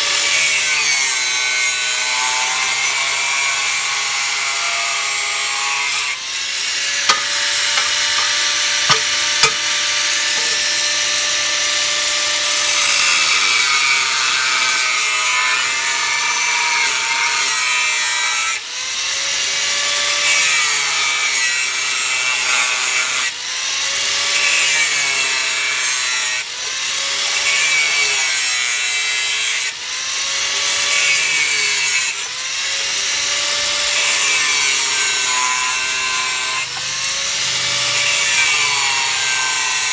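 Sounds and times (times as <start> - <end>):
angle grinder cutting metal: 0.2 - 39.9.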